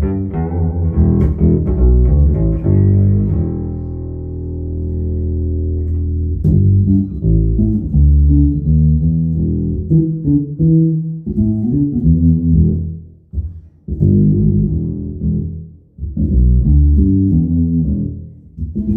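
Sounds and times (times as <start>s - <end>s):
bass guitar plucked notes: 0.0s - 18.9s.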